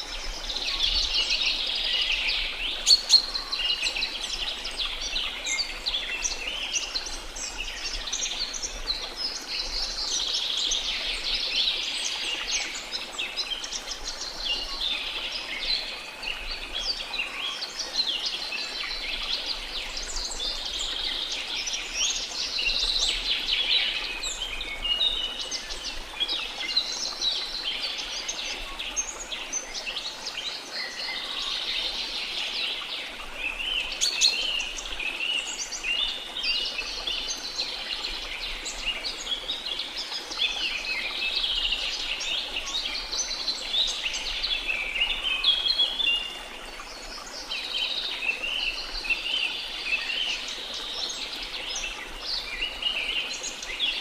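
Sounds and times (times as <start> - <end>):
tropical birds chirping and calling: 0.0 - 54.0.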